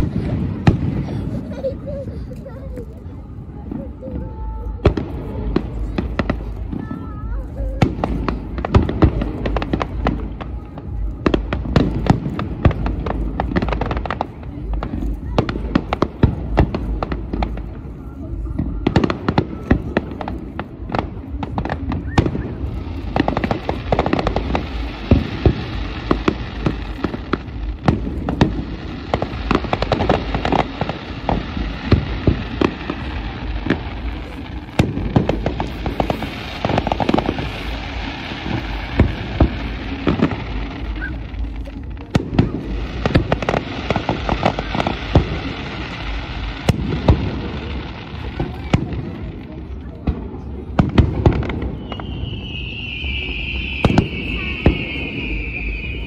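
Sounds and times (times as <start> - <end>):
firework bangs: 0.0 - 56.0
firework crackling: 0.0 - 56.0.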